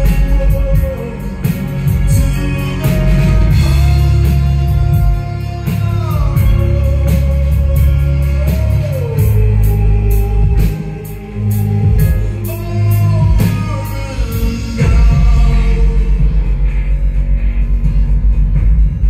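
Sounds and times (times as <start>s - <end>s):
drum kit: 0.0s - 19.0s
heavy bass: 0.0s - 19.0s.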